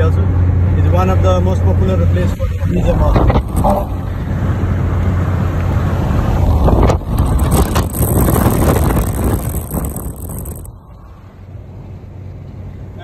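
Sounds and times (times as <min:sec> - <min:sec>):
tyre and wind rumble in car: 0:00.0 - 0:13.0.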